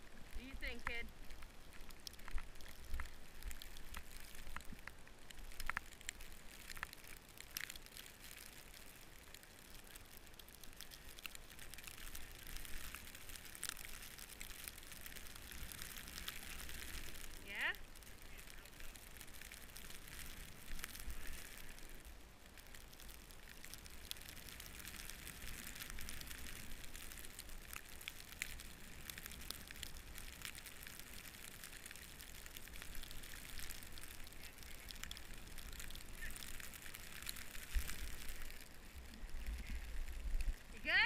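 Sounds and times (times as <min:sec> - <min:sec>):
light crackles: 0:00.0 - 0:41.0.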